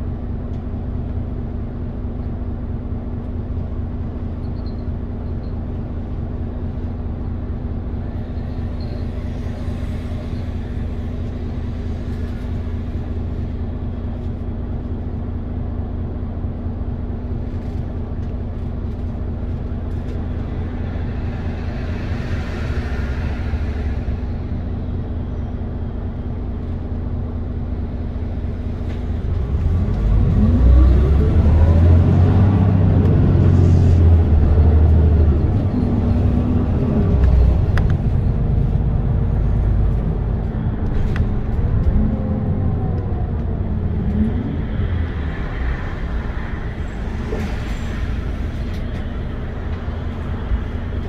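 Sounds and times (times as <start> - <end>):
bus diesel engine accelerating: 0.0 - 51.0.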